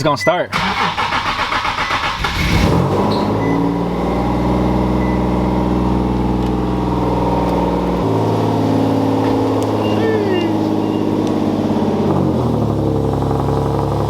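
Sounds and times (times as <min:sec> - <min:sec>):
car engine starting and idling: 0:00.0 - 0:14.0.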